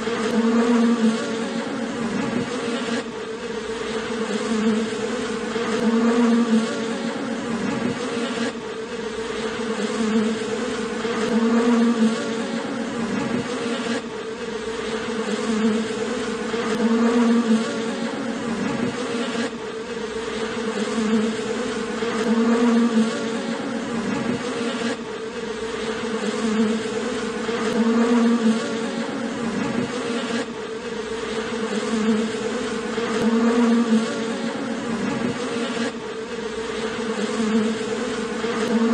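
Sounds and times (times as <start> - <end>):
honeybees humming: 0.0 - 38.9.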